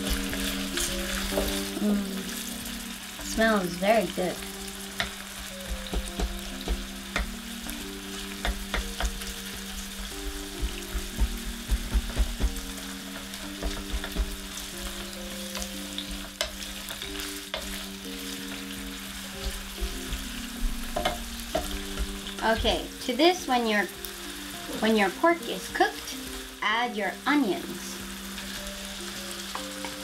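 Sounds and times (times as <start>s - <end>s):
meat sizzling in oil: 0.0s - 30.0s.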